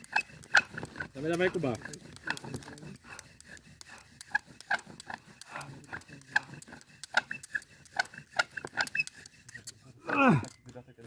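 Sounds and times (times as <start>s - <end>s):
wooden spindle squeaking: 0.0s - 11.0s.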